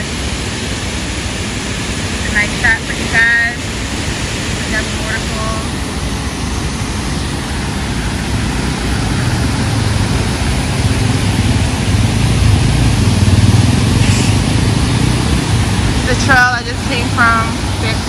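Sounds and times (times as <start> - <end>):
water rushing over a dam: 0.0 - 18.0.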